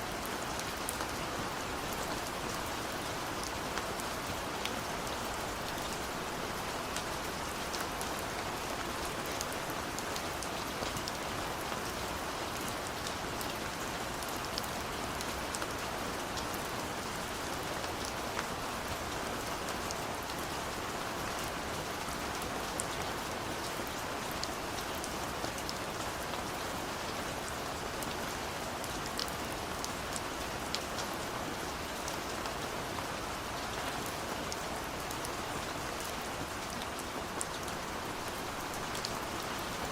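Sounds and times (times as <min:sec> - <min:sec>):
rain drops on hard surface: 0:00.0 - 0:39.9.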